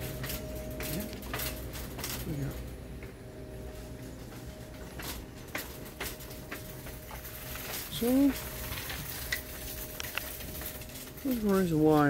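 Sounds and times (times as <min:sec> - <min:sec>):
soft footsteps: 0:00.0 - 0:10.9
faint hum: 0:00.0 - 0:12.0.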